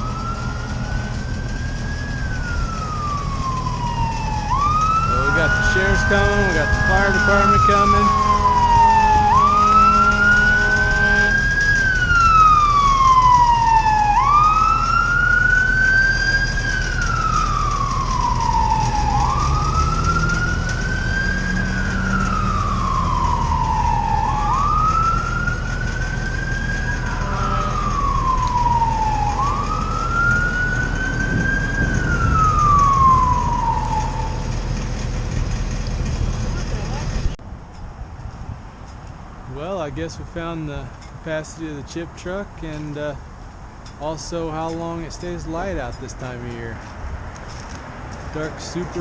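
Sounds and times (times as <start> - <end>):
emergency vehicle siren wailing: 0.0 - 37.4, 45.6 - 49.0
low engine rumble: 0.0 - 49.0.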